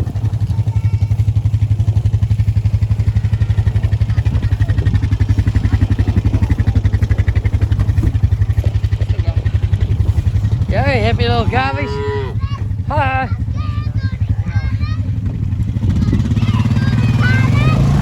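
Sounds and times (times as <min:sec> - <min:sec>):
motorbike engine running: 0:00.0 - 0:18.0.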